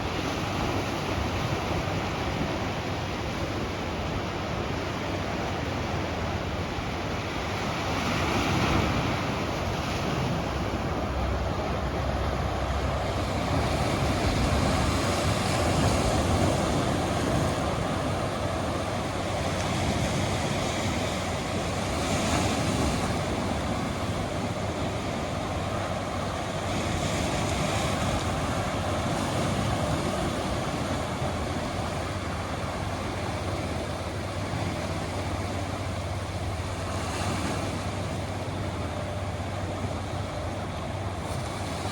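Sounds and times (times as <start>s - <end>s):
surf washing in: 0.0s - 41.9s.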